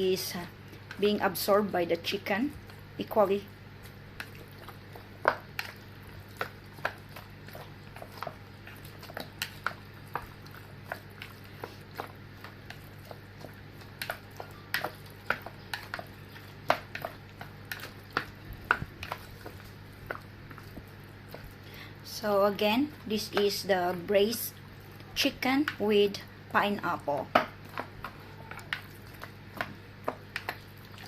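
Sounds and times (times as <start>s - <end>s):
faint hum: 0.0s - 31.0s
wet squishes of mixing meat: 0.0s - 31.0s.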